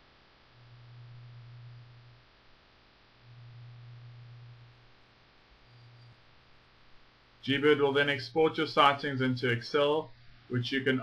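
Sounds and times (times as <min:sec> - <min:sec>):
faint steady hiss: 0:00.0 - 0:11.0
low electrical hum: 0:00.0 - 0:11.0.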